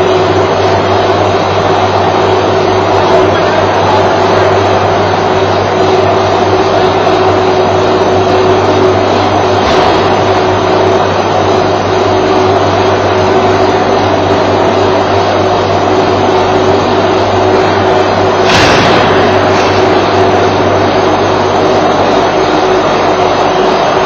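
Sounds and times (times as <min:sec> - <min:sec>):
mechanical drone with hum: 0:00.0 - 0:24.0.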